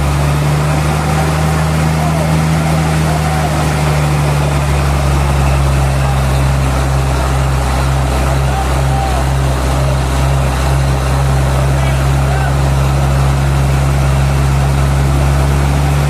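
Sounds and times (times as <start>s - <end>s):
machinery engine humming: 0.0s - 16.0s.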